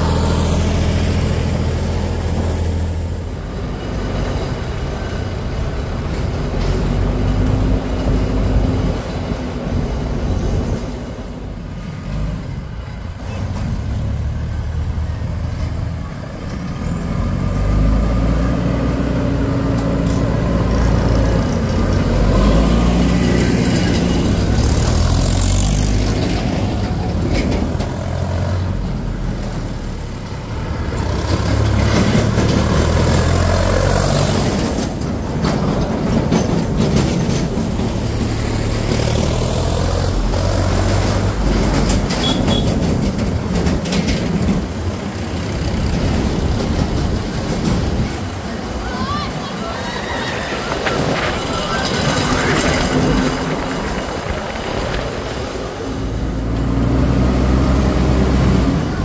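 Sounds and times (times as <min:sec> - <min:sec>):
tractor diesel engines droning: 0:00.0 - 0:59.0.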